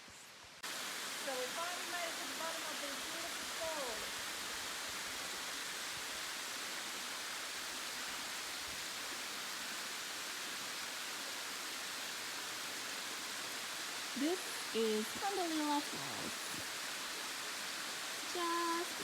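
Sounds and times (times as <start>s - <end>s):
waterfall rushing: 0.6s - 19.0s.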